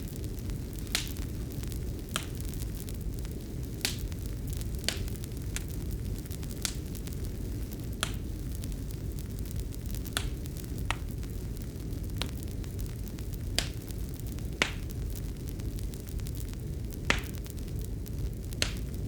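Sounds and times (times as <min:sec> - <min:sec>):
fire low rumble: 0:00.0 - 0:19.0
wood fire crackling: 0:00.0 - 0:19.0.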